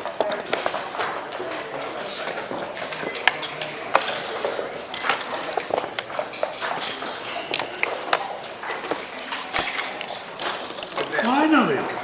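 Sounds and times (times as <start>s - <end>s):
checkers and dice clicking: 0.1s - 11.9s.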